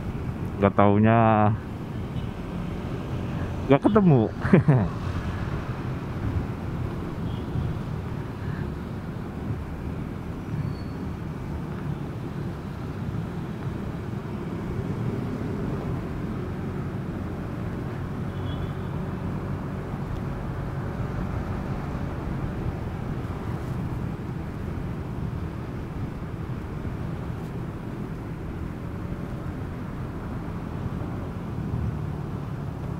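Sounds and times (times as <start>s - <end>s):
road noise: 0.0s - 32.9s.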